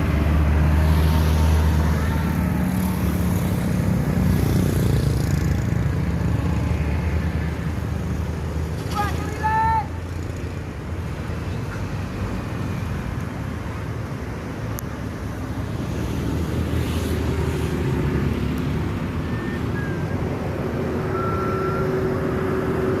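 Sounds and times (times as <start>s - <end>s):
bus engine running: 0.0s - 23.0s
road traffic noise: 0.0s - 23.0s.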